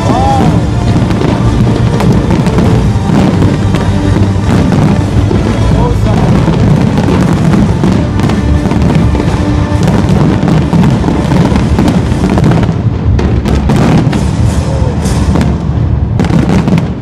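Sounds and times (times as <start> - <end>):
firework booms: 0.0 - 17.0
firework crackles: 0.0 - 17.0
music playing: 0.0 - 17.0.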